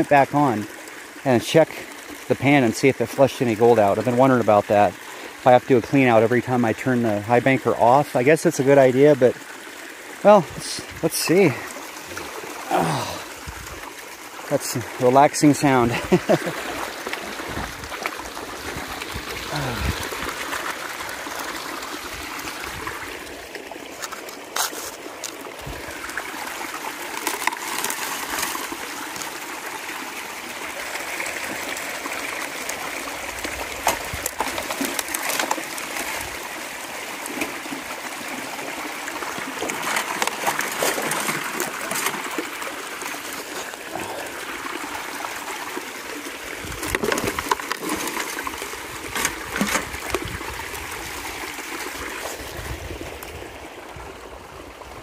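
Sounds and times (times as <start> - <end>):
water rushing through sluice: 0.0 - 55.0.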